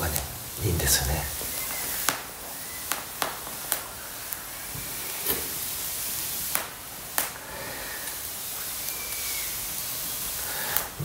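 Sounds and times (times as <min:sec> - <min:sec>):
campfire crackling: 0:00.0 - 0:11.0
sharp pops of burning wood: 0:00.0 - 0:11.0.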